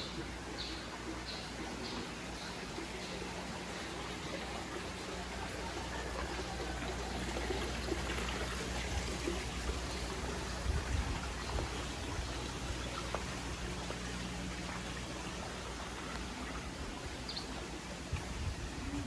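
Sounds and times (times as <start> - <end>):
water trickling over rocks: 0.0 - 19.0.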